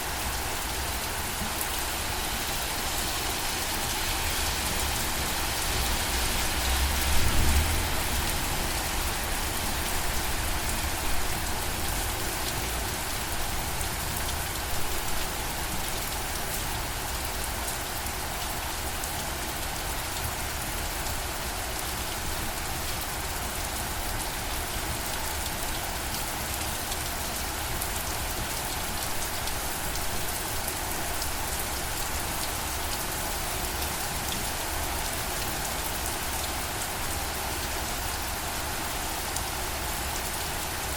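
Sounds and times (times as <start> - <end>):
rain pattering: 0.1 - 40.9.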